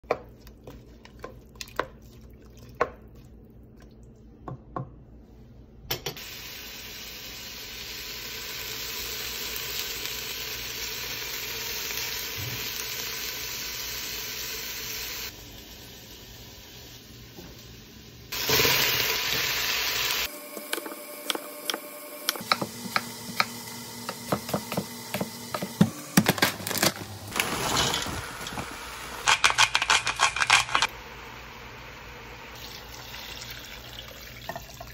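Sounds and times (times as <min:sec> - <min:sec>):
onion sizzling in pot: 0:06.2 - 0:34.9.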